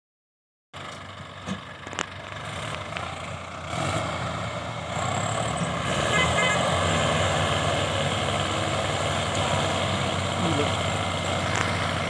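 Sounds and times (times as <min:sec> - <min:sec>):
diesel tractor engines under load: 0:00.8 - 0:12.0.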